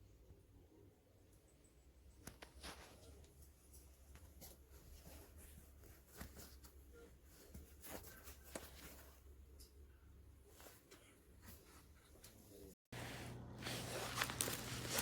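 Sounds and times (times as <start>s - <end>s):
faint clicks and rustles: 1.3s - 15.0s.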